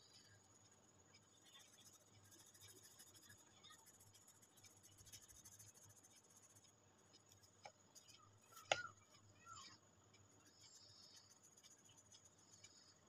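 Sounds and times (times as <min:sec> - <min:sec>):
pencil scratching on paper: 0:01.3 - 0:09.3, 0:10.4 - 0:13.0.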